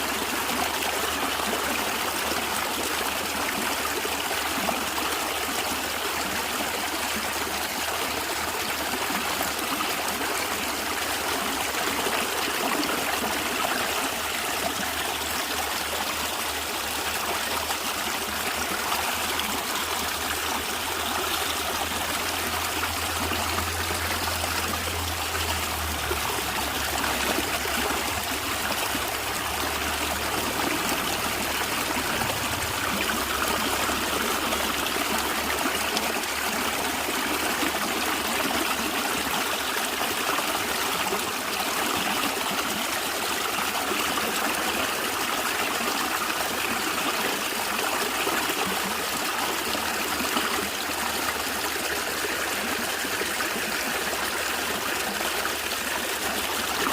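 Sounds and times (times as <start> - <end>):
stream flowing and gurgling: 0.0 - 56.9.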